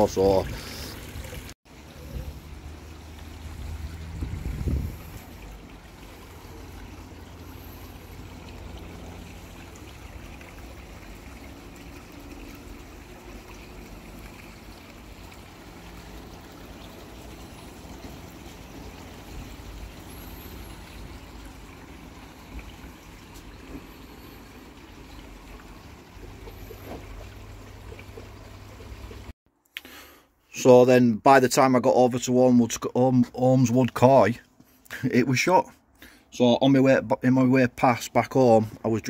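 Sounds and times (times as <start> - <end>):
pond waterfall trickling and splashing: 0.0 - 39.0.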